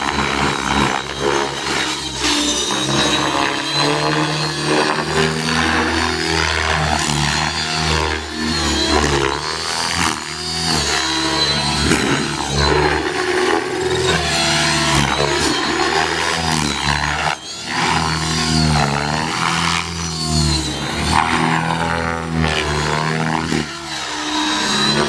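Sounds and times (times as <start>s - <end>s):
model helicopter motor whine: 0.0s - 25.0s.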